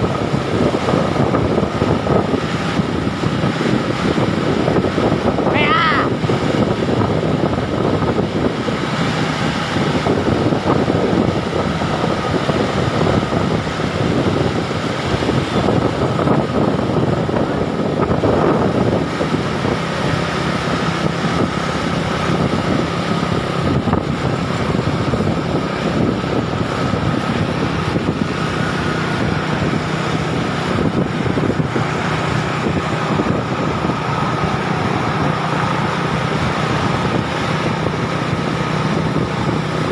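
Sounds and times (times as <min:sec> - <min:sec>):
moving vehicle running noise: 0:00.0 - 0:39.9
wind buffeting microphone: 0:00.0 - 0:39.9.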